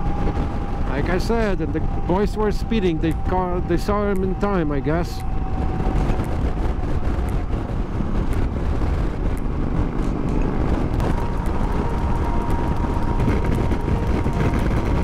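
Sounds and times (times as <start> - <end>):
motorcycle engine drone: 0.0 - 15.0
road noise: 0.0 - 15.0
wind rushing over microphone: 0.0 - 15.0.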